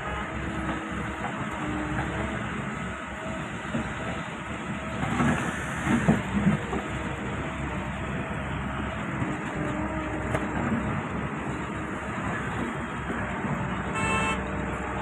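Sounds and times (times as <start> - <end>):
excavator running: 0.0 - 15.0.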